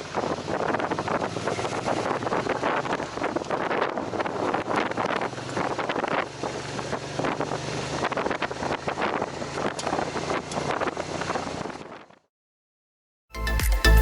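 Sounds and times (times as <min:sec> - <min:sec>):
wind buffeting microphone: 0:00.0 - 0:12.2
motorcycle engine hum: 0:00.0 - 0:12.3.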